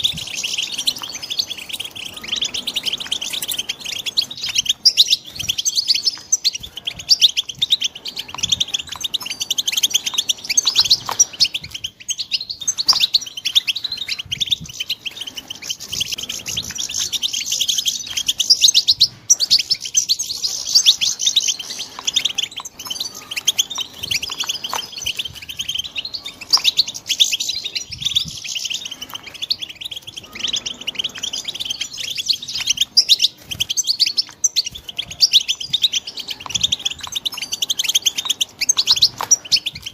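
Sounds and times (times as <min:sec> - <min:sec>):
goldfinches twittering and chirping: 0:00.0 - 0:39.9.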